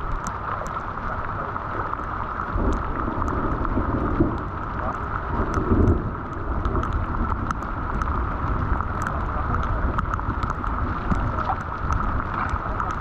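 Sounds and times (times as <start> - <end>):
drops ticking: 0.0 - 13.0
rushing water and rain: 0.0 - 13.0
wind rumbling on microphone: 0.0 - 13.0.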